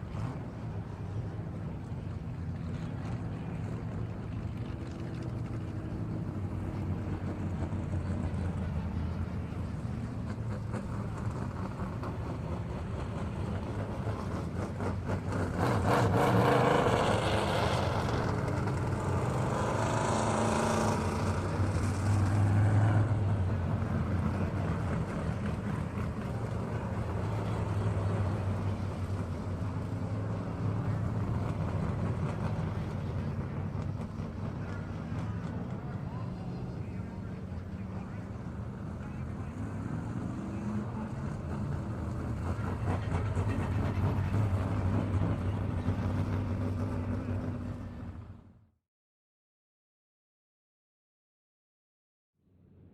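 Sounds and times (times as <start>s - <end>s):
car engine humming: 0.0s - 48.3s.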